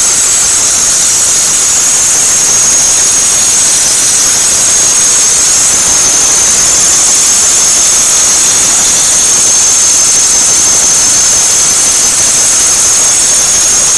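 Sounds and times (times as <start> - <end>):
high-pitched engine squeal: 0.0 - 13.9.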